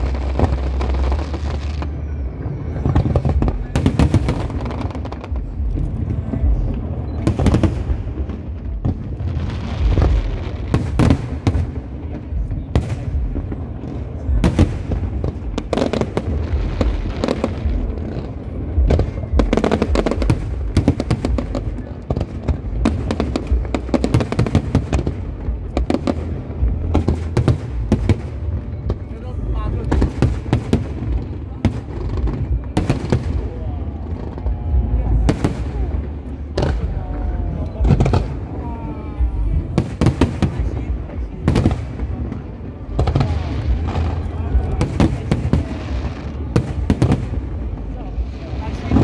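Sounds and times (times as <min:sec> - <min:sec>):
fireworks bursting: 0:00.0 - 0:49.0
low rumble: 0:00.0 - 0:49.0.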